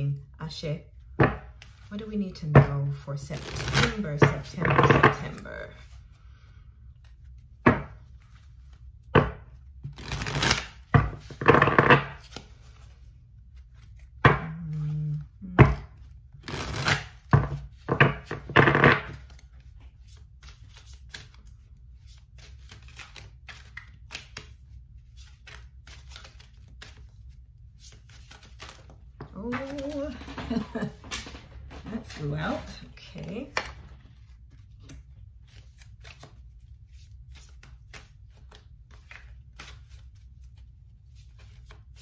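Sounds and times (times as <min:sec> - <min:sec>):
cards being shuffled: 0:03.2 - 0:06.1, 0:06.9 - 0:42.0.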